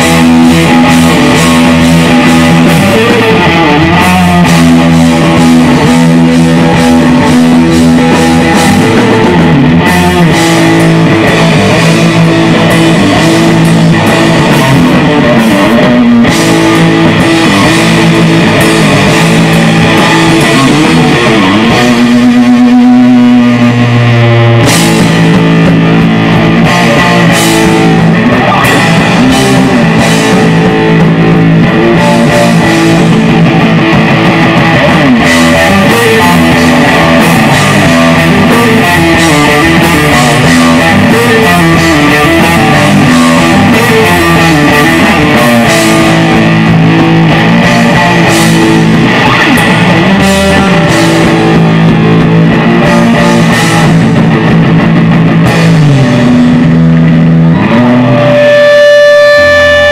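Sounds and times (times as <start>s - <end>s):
drum kit with cymbal hits: 0.0s - 59.9s
electric guitar chords: 0.0s - 59.9s
heavy rock band playing: 0.0s - 59.9s.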